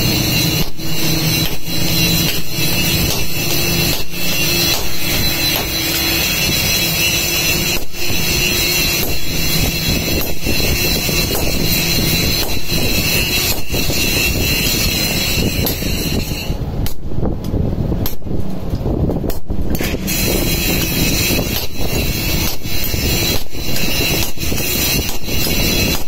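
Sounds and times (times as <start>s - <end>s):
forge air blower whirring: 0.0s - 19.0s, 19.6s - 26.0s.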